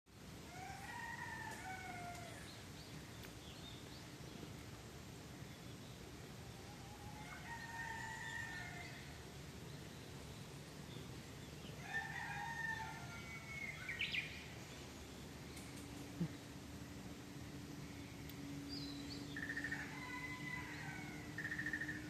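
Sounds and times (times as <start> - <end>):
low steady hum: 0.1 - 22.0.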